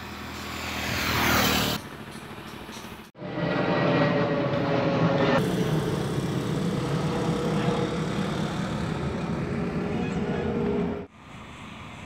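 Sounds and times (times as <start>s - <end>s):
jet airliner flying overhead: 0.0s - 2.2s, 3.0s - 12.0s.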